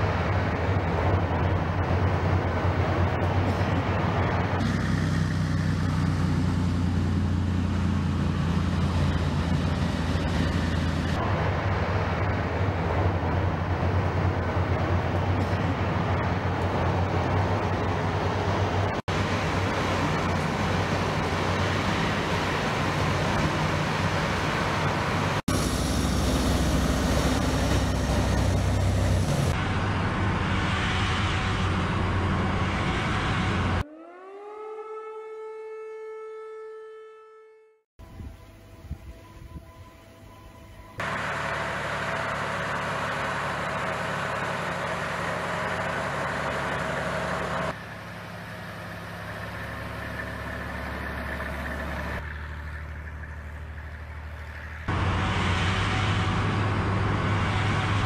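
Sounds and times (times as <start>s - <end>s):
military truck diesel engines rumbling: 0.0s - 33.8s, 38.3s - 58.0s.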